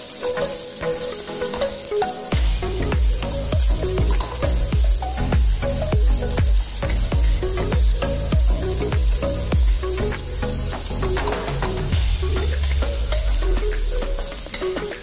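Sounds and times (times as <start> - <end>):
background music with beat: 0.0 - 15.0
onion and garlic sizzling: 0.0 - 15.0.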